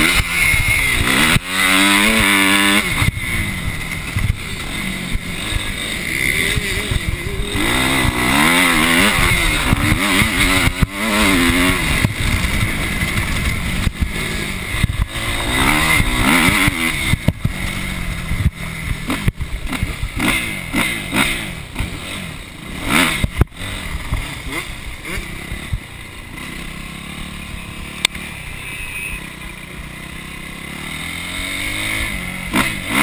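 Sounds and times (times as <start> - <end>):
motocross engine revving: 0.0 - 33.0.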